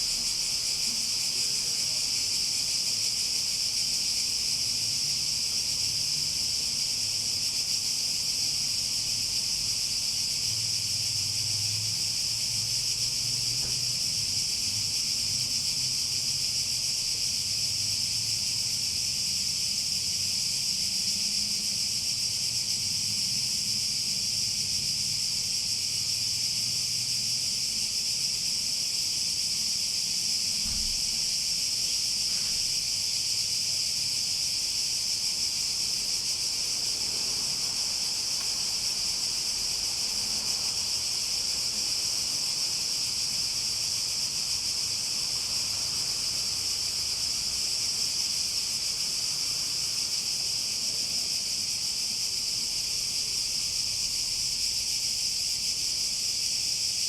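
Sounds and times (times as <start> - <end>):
cicada chorus buzzing: 0.0 - 57.0.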